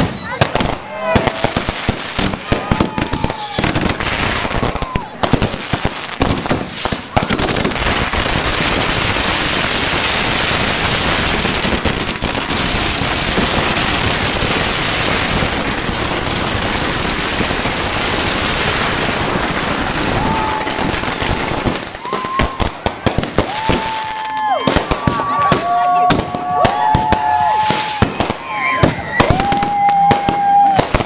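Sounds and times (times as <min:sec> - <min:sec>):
firecrackers crackling: 0:00.0 - 0:31.0.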